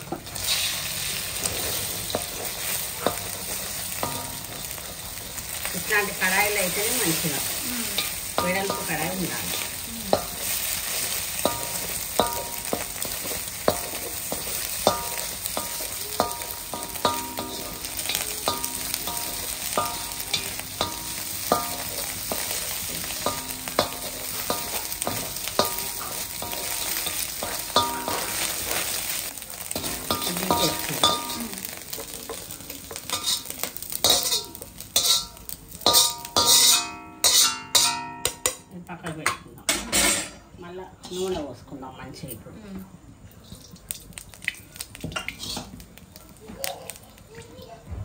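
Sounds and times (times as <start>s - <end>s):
eggs sizzling in a pan: 0.0s - 48.0s.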